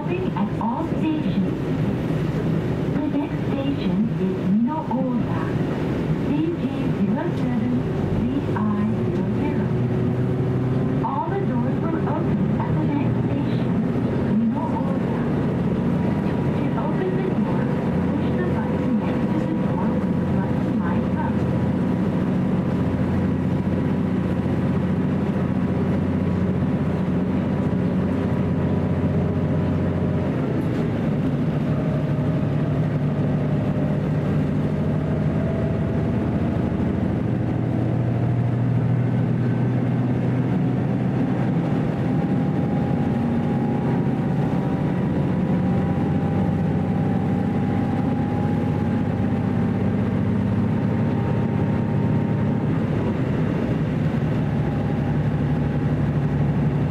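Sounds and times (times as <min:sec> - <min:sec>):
diesel engine drone: 0:00.0 - 0:56.9.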